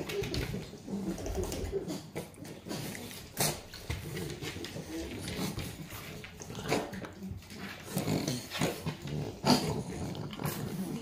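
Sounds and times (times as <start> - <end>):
dogs grunting and sniffing: 0.0 - 11.0.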